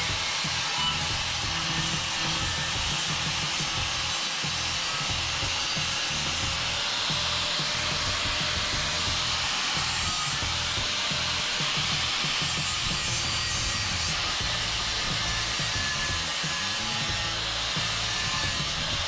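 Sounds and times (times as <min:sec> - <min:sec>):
background music: 0:00.0 - 0:19.0
hand tool scraping steel: 0:00.0 - 0:19.0.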